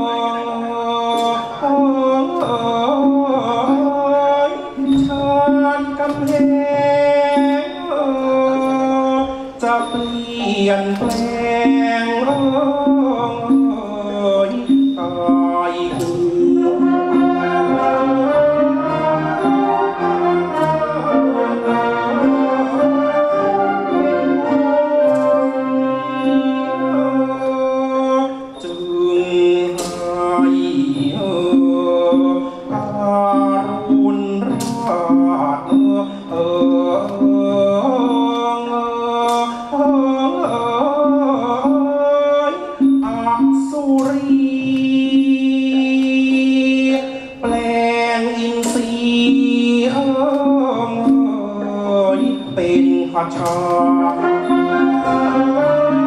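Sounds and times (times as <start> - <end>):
orchestral music: 0.0 - 56.0.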